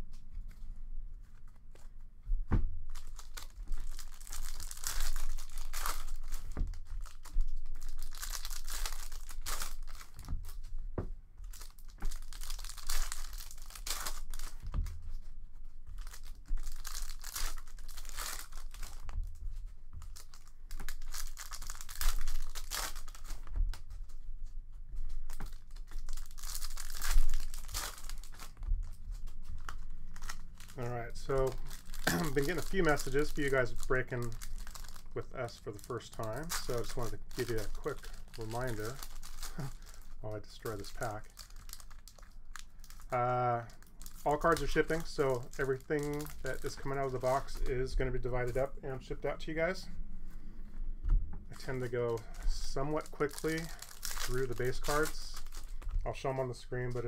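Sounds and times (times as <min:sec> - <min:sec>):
card pack wrappers tearing: 0:02.9 - 0:10.7, 0:11.4 - 0:15.2, 0:15.9 - 0:19.2, 0:20.0 - 0:24.1, 0:25.1 - 0:48.7, 0:51.6 - 0:56.2.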